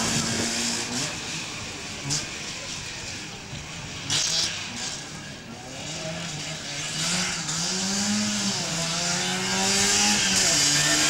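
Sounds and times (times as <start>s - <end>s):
two-stroke car engine revving: 0.0s - 11.0s.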